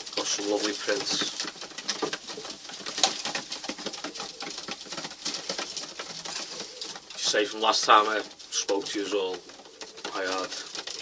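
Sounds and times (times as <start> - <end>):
birds tapping and rustling: 0.0 - 11.0
pigeons cooing: 0.0 - 11.0.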